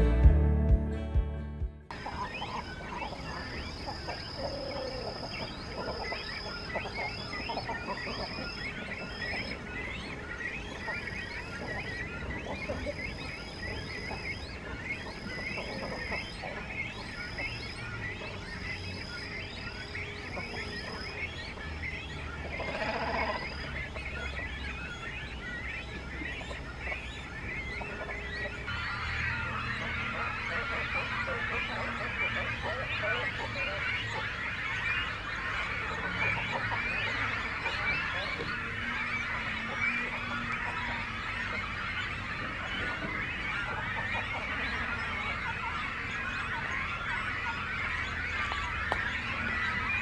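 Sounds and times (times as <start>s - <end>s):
chicks chirping calls: 1.9s - 50.0s.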